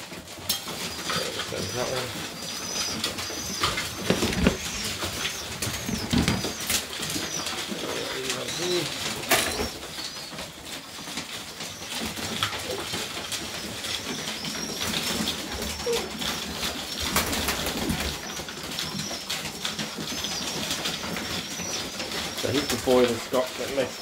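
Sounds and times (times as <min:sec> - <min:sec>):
pigeons cooing: 0:00.0 - 0:24.0
pigeons scuffling: 0:00.0 - 0:24.0
wings flapping: 0:00.0 - 0:24.0.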